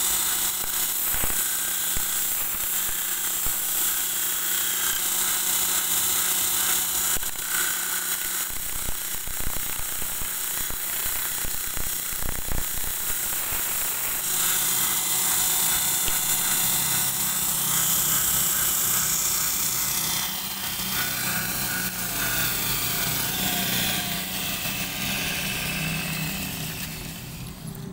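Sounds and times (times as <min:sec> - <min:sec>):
belt grinder grinding steel: 0:00.0 - 0:27.9
grinder motor humming: 0:00.0 - 0:27.9.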